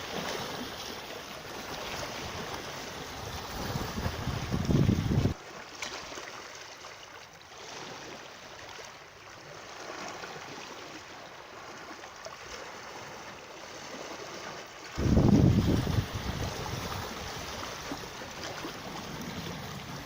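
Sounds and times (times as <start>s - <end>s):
flowing water: 0.0s - 20.0s.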